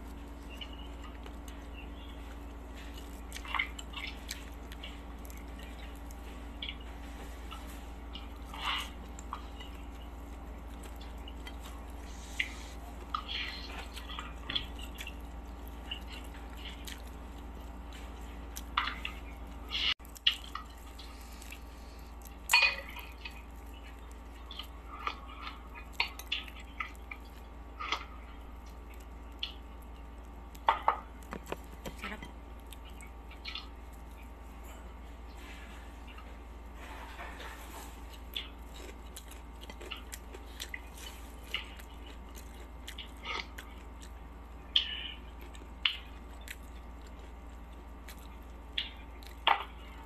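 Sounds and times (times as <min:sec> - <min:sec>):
crunchy chewing: 0:00.0 - 0:50.0
steady low hum: 0:00.0 - 0:50.0.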